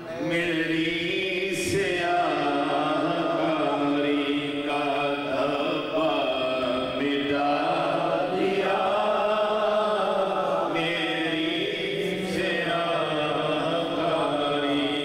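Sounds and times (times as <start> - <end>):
men chanting unaccompanied: 0.0 - 15.0.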